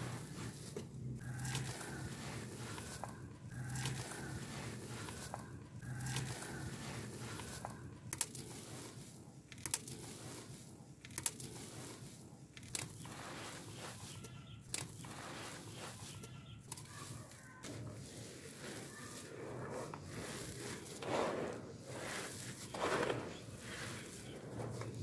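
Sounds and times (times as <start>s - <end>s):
charcoal powder crumbled in hands: 0.0s - 25.0s
gritty crunches: 0.0s - 25.0s.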